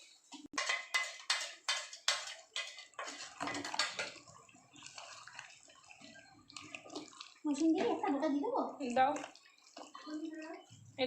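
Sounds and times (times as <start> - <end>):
hand mixing wet chicken pieces: 1.9 - 11.0.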